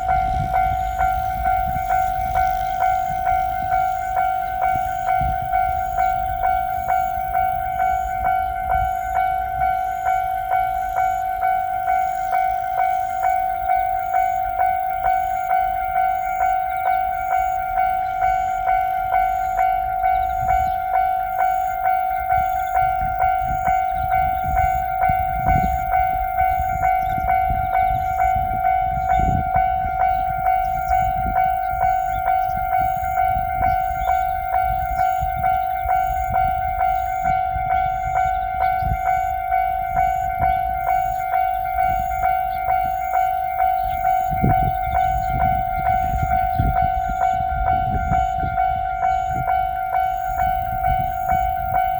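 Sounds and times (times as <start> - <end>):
railroad crossing bell ringing: 0.0 - 51.9
train wheels rumbling on rails: 0.0 - 51.9.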